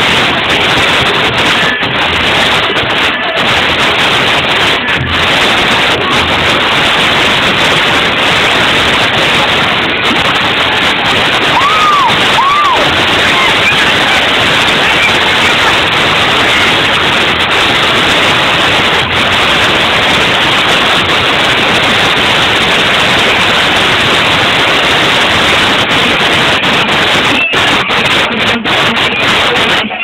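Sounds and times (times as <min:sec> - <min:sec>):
loud distorted static noise: 0:00.0 - 0:30.0.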